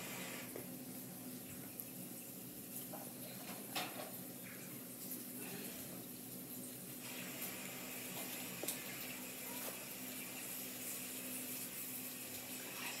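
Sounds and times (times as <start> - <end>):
kitchen tap running: 0.0 - 13.0.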